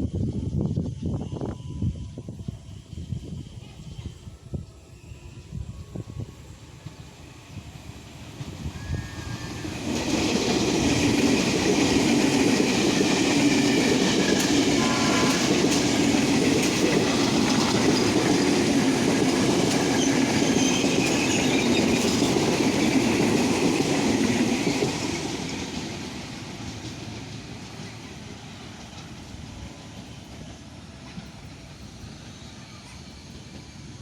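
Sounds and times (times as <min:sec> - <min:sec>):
train wheels rumbling on rails: 0:05.5 - 0:34.0.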